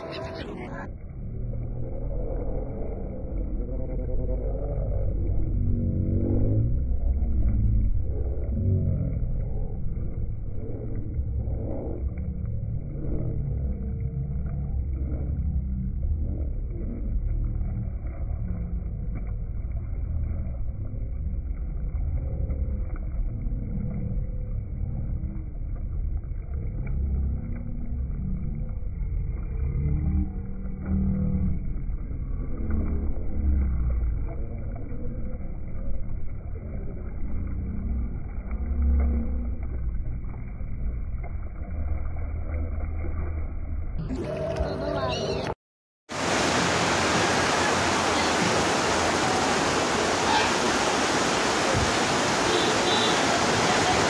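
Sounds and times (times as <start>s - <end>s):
water churning past hull: 0.0s - 45.5s, 46.1s - 54.0s
boat engine rumble: 0.0s - 54.0s.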